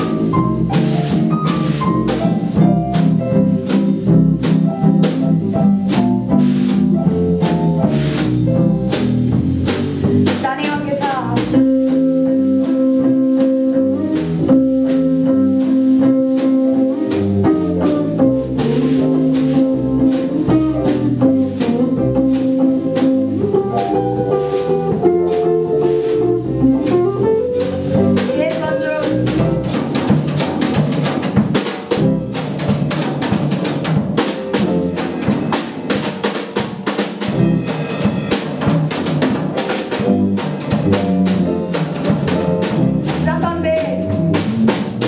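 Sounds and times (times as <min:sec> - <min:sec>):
drum kit: 0:00.0 - 0:45.0.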